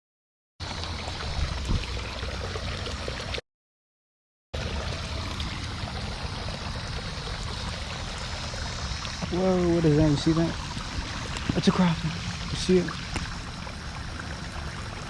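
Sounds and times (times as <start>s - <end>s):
creek water running over rocks: 0.6s - 3.4s, 4.6s - 15.0s.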